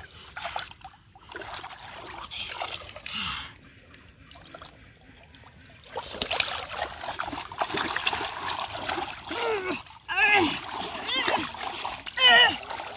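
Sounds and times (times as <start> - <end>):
muddy water splashing: 0.0 - 12.9.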